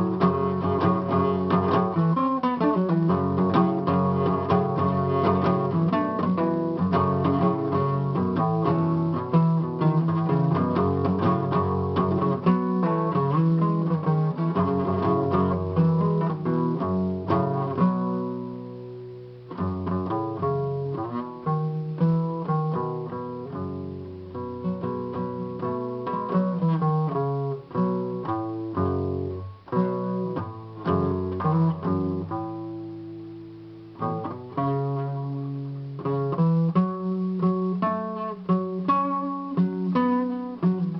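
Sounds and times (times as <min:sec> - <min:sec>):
acoustic guitar playing: 0:00.0 - 0:40.9.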